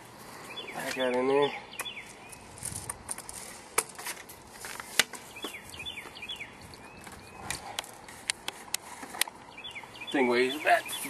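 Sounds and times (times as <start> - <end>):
small birds chirping: 0.0 - 3.7, 4.5 - 11.0.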